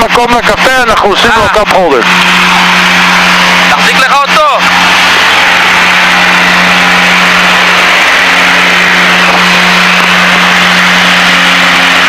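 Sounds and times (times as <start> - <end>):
twin propeller engines droning: 0.0 - 12.0
airflow rushing: 2.1 - 12.0.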